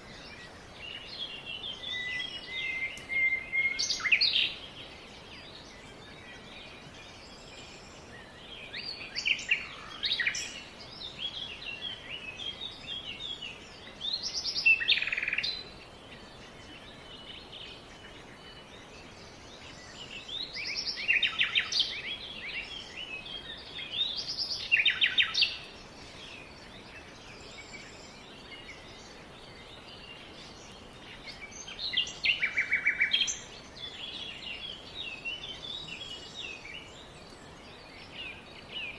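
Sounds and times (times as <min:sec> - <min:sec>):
faint steady hiss: 0:00.0 - 0:38.9
songbirds singing: 0:00.0 - 0:38.9.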